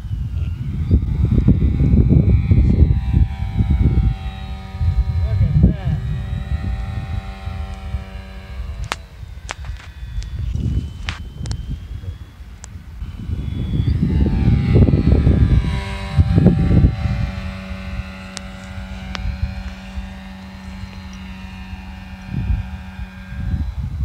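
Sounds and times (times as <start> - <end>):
electric motor and propeller whining: 0.0 - 24.0
wind rumble on microphone: 0.0 - 24.0.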